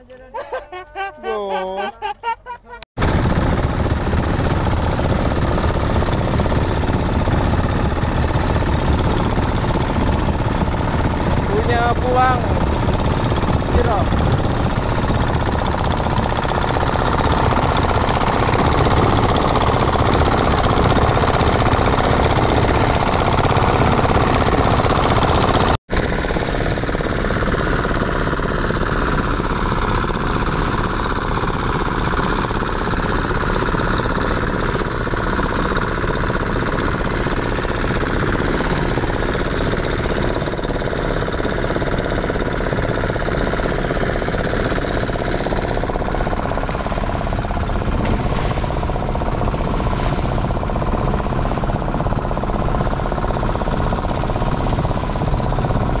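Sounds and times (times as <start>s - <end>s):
boat engine running: 0.0s - 56.0s
rush of wake water: 3.0s - 56.0s.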